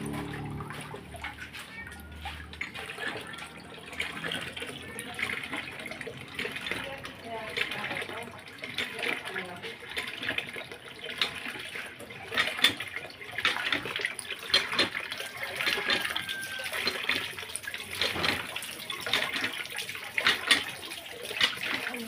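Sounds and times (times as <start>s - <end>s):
water splashing in metal basin: 0.0s - 22.0s.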